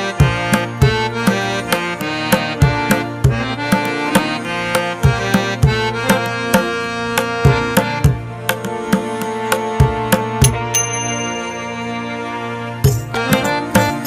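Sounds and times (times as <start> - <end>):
background music with percussive beat: 0.0 - 14.0.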